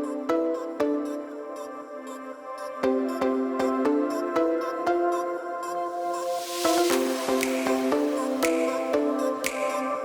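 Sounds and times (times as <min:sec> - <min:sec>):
electronic music with pitched notes: 0:00.0 - 0:10.0.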